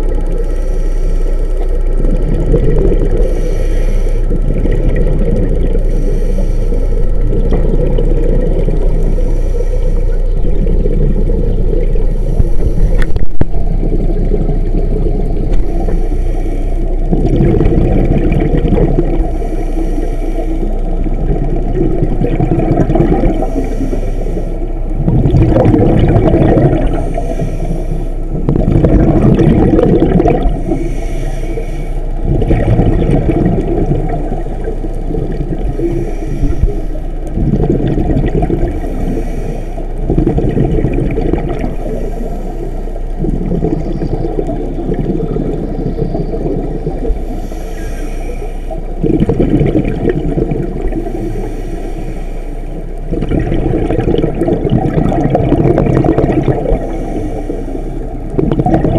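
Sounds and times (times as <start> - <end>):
muffled water sloshing: 0.0 - 58.9.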